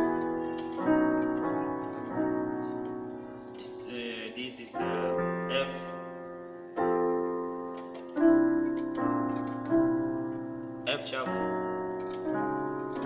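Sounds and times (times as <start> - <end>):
keyboard playing sustained chords: 0.0 - 13.0.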